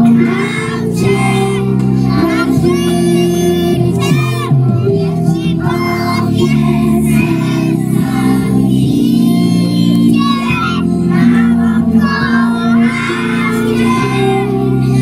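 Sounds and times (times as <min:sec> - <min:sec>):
children singing in unison: 0:00.0 - 0:15.0
held chords accompaniment: 0:00.0 - 0:15.0.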